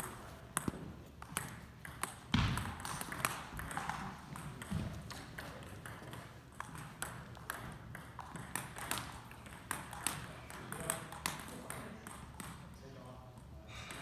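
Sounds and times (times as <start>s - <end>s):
table tennis balls clicking: 0.0s - 12.8s.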